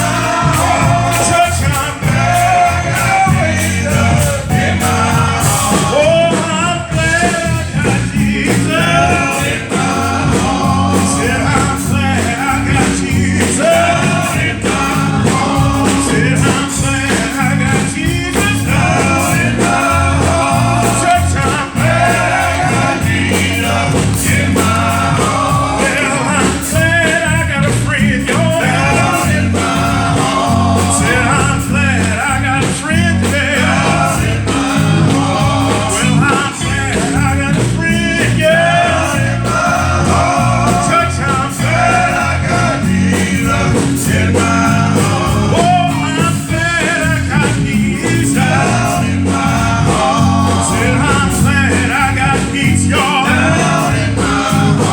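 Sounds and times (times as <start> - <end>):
band with steady bass line: 0.0 - 54.9
voices singing: 0.0 - 54.9.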